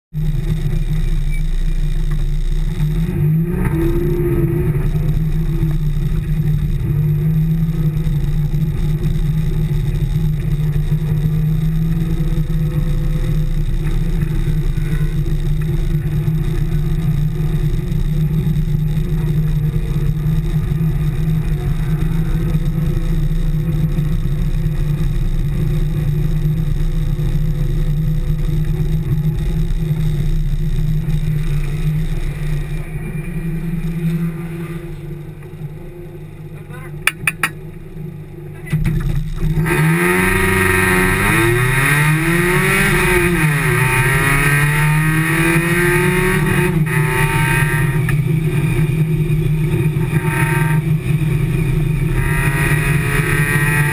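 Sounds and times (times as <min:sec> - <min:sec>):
race car engine running: 0:00.1 - 0:53.9.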